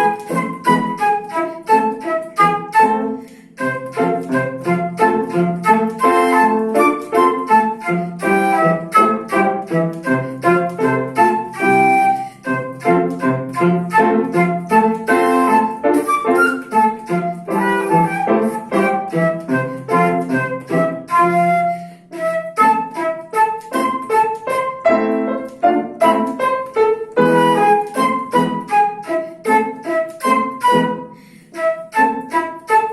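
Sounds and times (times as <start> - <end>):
solo classical instrumental music: 0.0 - 32.9.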